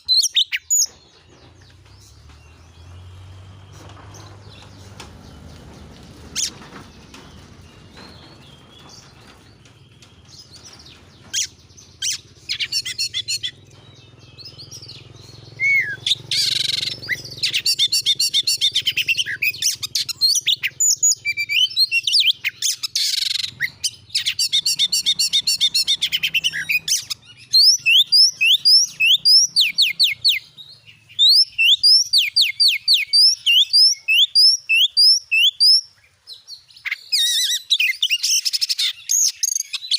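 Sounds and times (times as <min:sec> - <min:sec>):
bird singing with rapid trills: 0:00.0 - 0:39.9.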